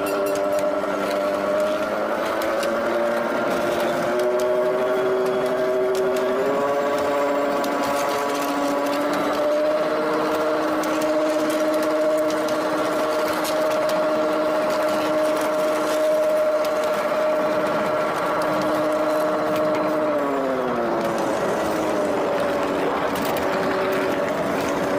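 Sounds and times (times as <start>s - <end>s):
rail cart running gear whine: 0.0s - 24.9s
steel wheels clicking on rails: 0.0s - 24.9s.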